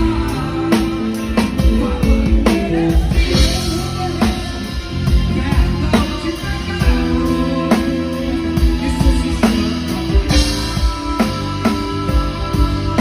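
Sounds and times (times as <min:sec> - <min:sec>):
bass guitar: 0:00.0 - 0:13.0
drum kit beat: 0:00.0 - 0:13.0
electric guitar: 0:00.0 - 0:13.0
keyboard chords: 0:00.0 - 0:13.0
person singing: 0:00.0 - 0:13.0.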